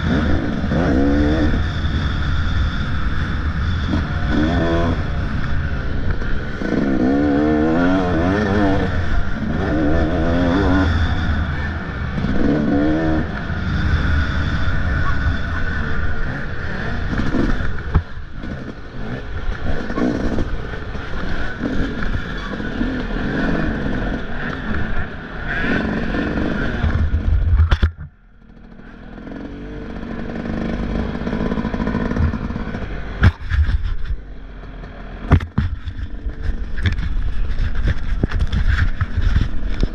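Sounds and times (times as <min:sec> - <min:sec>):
motocross bike engine revving: 0:00.0 - 0:27.8, 0:28.4 - 0:39.9.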